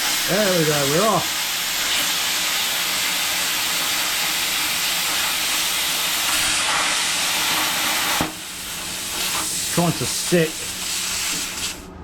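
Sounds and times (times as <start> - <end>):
plasma cutter hissing: 0.0 - 11.8.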